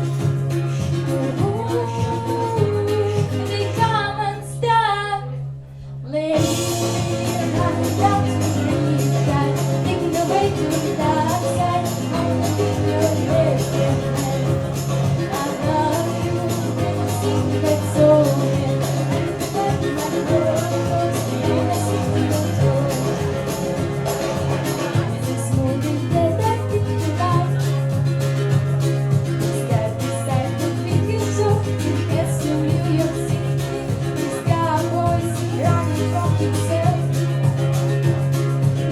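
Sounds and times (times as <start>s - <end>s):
backing music with beat and bass: 0.0s - 4.0s, 6.4s - 38.9s
person singing: 0.9s - 4.4s, 6.2s - 27.8s, 29.4s - 37.2s.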